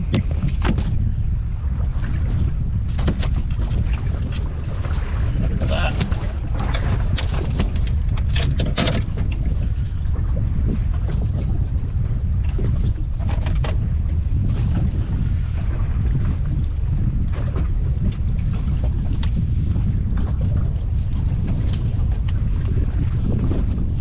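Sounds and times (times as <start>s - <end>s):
fishing boat engine rumble: 0.0s - 24.0s
wind buffeting microphone: 0.0s - 24.0s.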